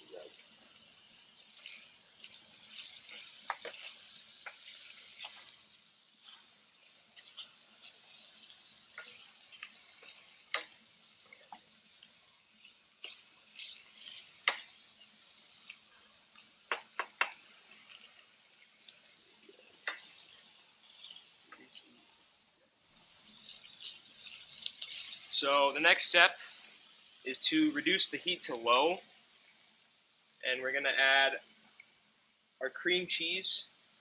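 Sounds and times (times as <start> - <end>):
vegetables sizzling in a frying pan: 0.0 - 34.0.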